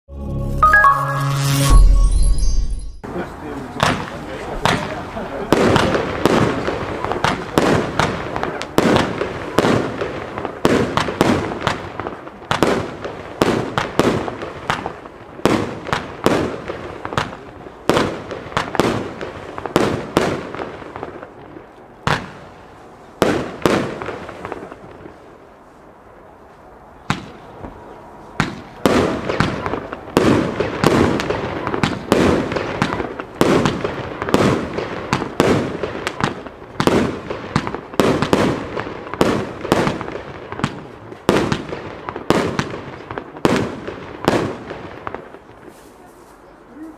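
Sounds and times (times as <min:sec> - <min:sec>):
firework crackle: 0:00.7 - 0:46.9
firework bangs: 0:03.0 - 0:25.5, 0:27.0 - 0:45.8.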